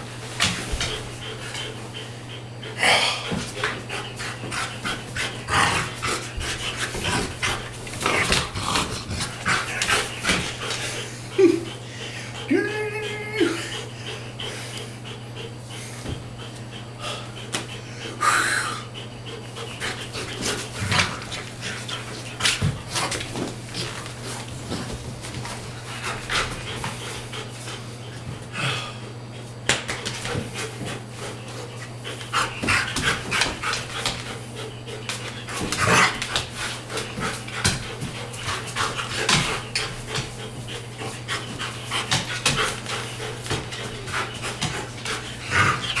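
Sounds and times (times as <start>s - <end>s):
paws scuffling on floor: 0.0s - 12.4s, 19.1s - 46.0s
dog panting: 0.0s - 46.0s.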